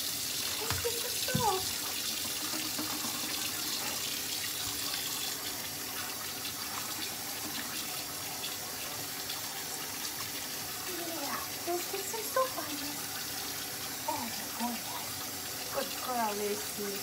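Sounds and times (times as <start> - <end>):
faucet water splashing into sink: 0.0 - 17.0.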